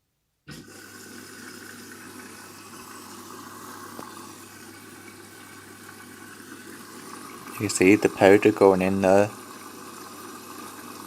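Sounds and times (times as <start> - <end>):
water rushing into washing machine: 0.5 - 11.0.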